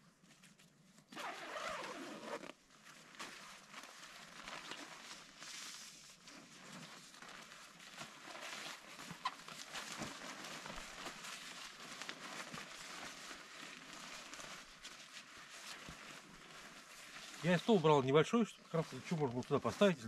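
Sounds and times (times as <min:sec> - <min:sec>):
rustling of camping gear: 0:00.0 - 0:20.0.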